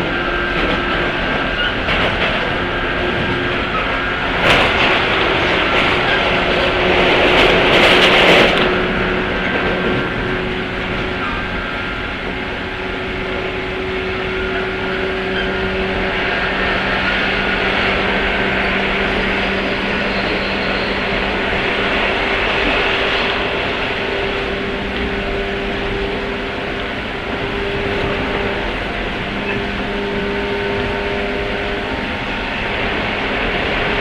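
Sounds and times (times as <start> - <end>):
traction motors humming: 0.0 - 34.0
train wheels on rail: 0.0 - 34.0.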